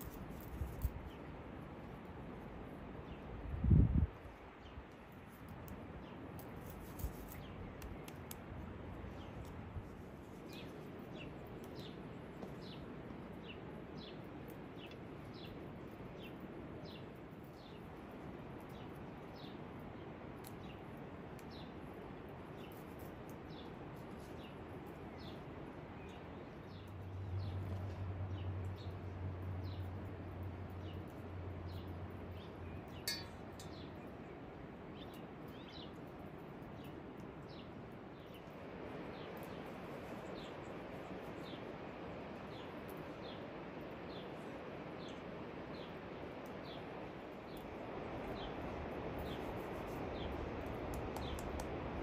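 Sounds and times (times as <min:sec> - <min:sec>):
small birds chirping: 0:00.0 - 0:51.8
steady outdoor hiss: 0:00.0 - 0:52.0.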